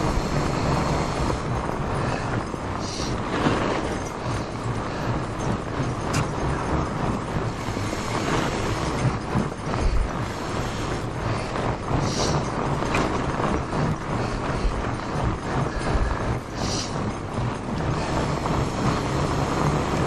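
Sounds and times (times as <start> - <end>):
bike drivetrain rattling: 0.0 - 20.0
sharp clicks and thumps from bumps: 0.0 - 20.0
tyres crunching on snow: 0.0 - 20.0.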